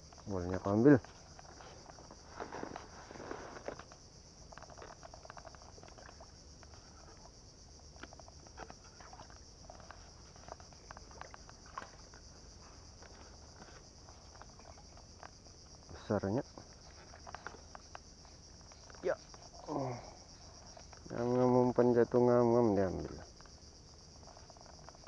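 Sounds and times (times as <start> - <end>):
high insect drone: 0.0 - 25.0
small water splashes: 0.2 - 21.5.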